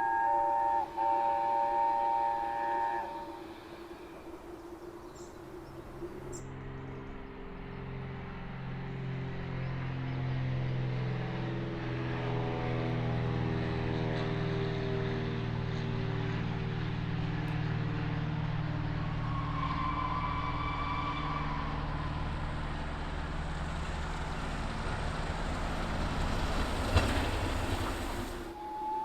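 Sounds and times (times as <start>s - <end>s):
train rumbling past on rails: 0.0s - 29.0s.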